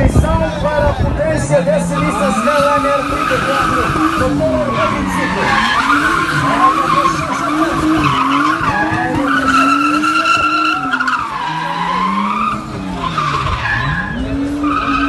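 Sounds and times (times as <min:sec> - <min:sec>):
car engine revving high: 0:01.4 - 0:15.0
tyres squealing: 0:01.8 - 0:15.0.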